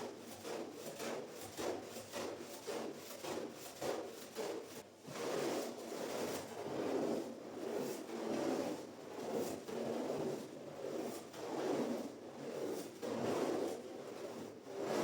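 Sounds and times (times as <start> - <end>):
cleaning tool scrubbing wet rug: 0.1 - 15.0.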